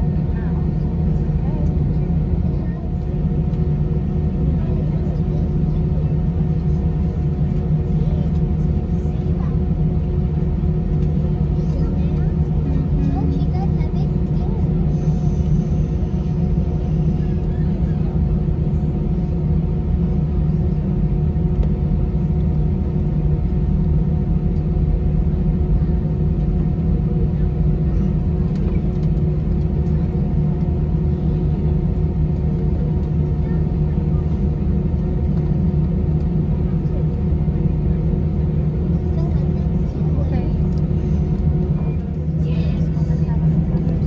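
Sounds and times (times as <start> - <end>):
constant cabin hums: 0.0 - 44.0
jet engines rumbling: 0.0 - 44.0.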